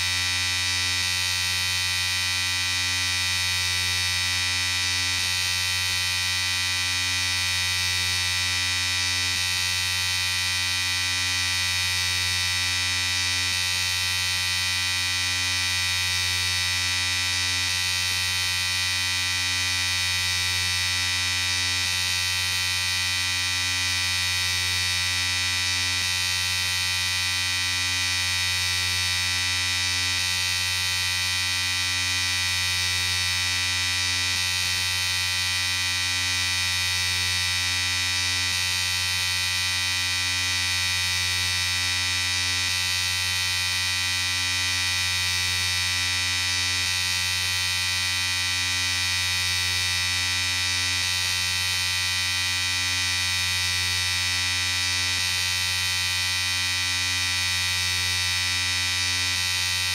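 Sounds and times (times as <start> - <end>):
electric shaver buzzing: 0.0 - 59.9.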